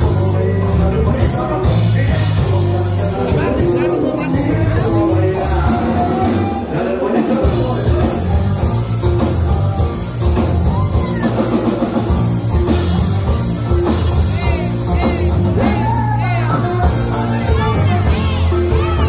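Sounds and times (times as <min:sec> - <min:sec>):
person singing: 0:00.0 - 0:09.2, 0:10.3 - 0:19.0
dance music: 0:00.0 - 0:19.0.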